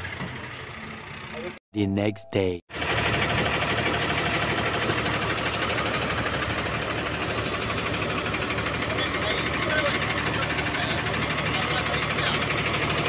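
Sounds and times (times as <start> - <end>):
diesel truck engine idling: 0.0 - 1.6, 2.7 - 13.0.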